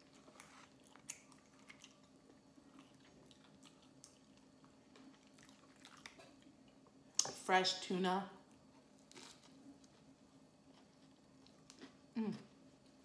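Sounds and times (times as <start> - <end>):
faint chewing: 0.0 - 7.4, 8.5 - 13.0
faint steady hum: 0.0 - 13.0.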